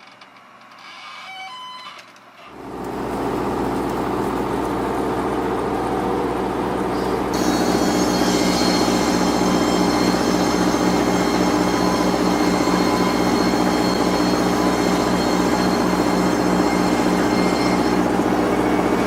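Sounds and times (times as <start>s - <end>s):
large machine humming: 2.6s - 19.0s
steady high whine: 2.8s - 19.0s.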